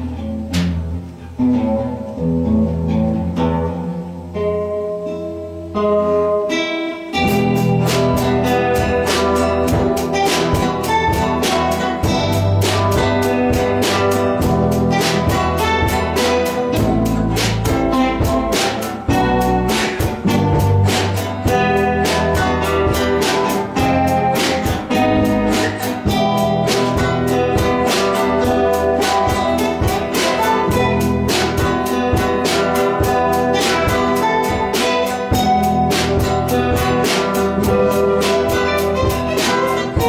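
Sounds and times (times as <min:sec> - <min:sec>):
guitar ensemble playing: 0:00.0 - 0:40.0
steady percussive beat: 0:07.1 - 0:40.0.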